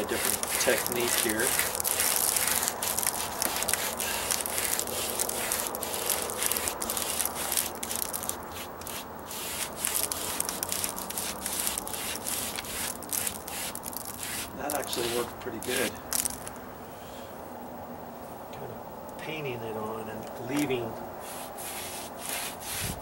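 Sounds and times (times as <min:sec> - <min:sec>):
scratchy brush strokes on stucco: 0:00.0 - 0:16.4, 0:20.6 - 0:23.0.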